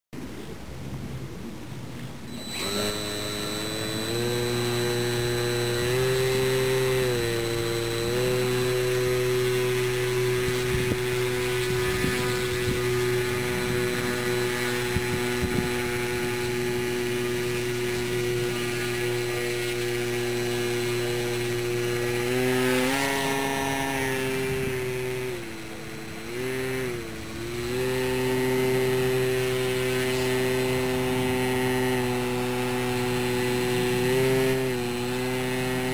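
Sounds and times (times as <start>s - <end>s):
model plane motor whine: 2.0s - 35.9s.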